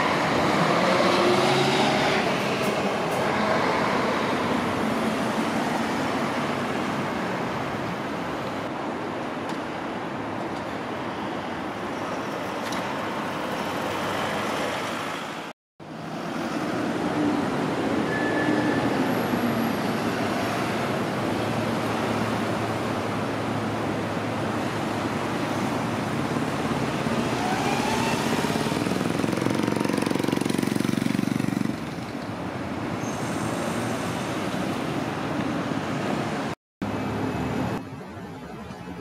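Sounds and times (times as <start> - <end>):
heavy engine: 0.0 - 38.0
road traffic passing: 0.0 - 39.0.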